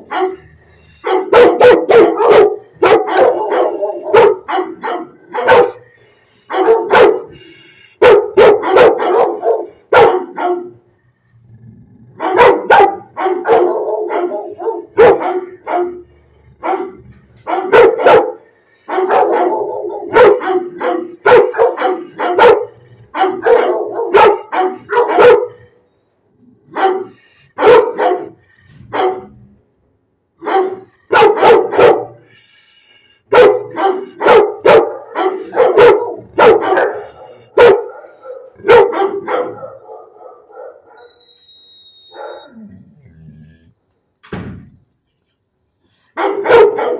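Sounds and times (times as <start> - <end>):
dog barking: 0.0 - 10.8, 12.2 - 25.8, 26.7 - 29.4, 30.4 - 32.3, 33.3 - 41.2, 42.1 - 42.6, 46.1 - 46.9.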